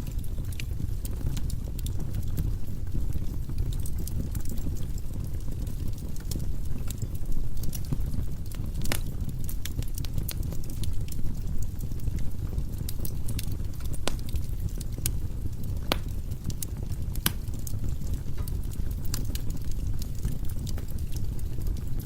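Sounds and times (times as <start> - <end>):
fire flames rumbling: 0.0 - 22.0
firewood crackling and popping: 0.0 - 22.0.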